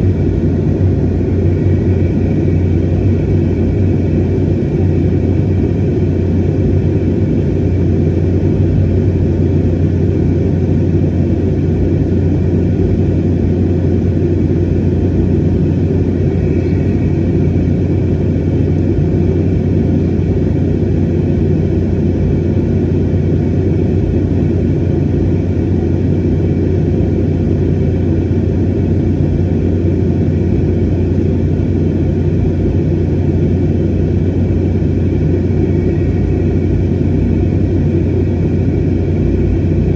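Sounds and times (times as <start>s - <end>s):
faint steady whine: 0.0s - 39.9s
jet engine rumble in cabin: 0.0s - 39.9s
low hum: 0.0s - 39.9s.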